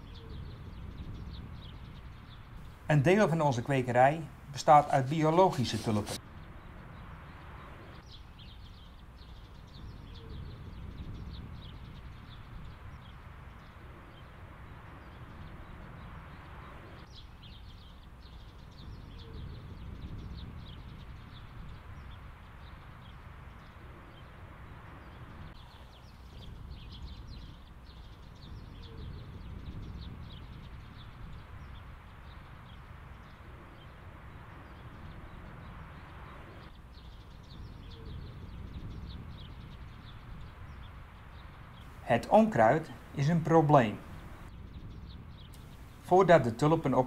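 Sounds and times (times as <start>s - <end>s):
wind rumbling on microphone: 0.0s - 3.2s, 5.2s - 42.0s, 42.6s - 46.5s
small birds chirping: 0.0s - 47.0s.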